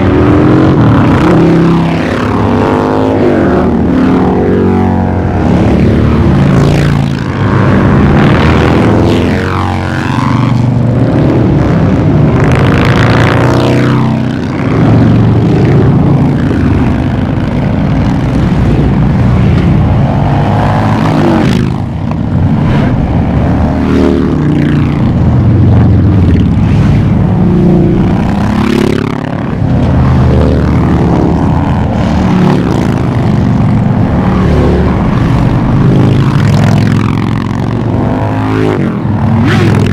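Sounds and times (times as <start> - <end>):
motorcycle engines rumbling: 0.0 - 39.9.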